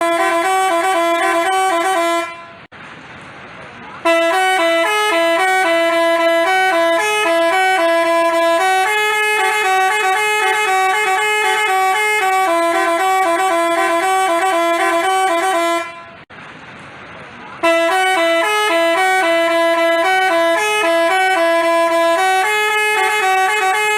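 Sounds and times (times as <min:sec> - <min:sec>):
bus melody horn playing a tune: 0:00.0 - 0:02.7, 0:04.0 - 0:16.3, 0:17.6 - 0:23.9.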